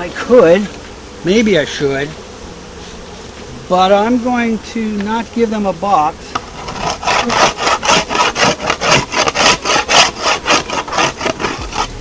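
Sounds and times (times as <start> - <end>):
rapid back-and-forth scraping: 0.0 - 12.0.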